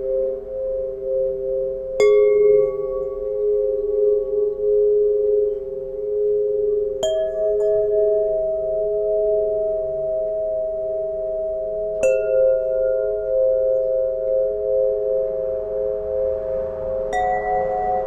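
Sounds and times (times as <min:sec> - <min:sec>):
tuning pipes ringing: 0:00.0 - 0:18.0.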